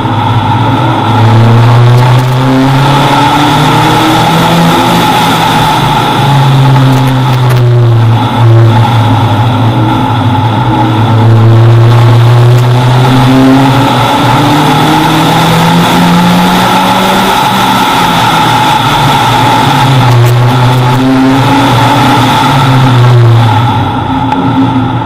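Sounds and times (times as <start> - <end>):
car engine revving high: 0.0 - 25.0.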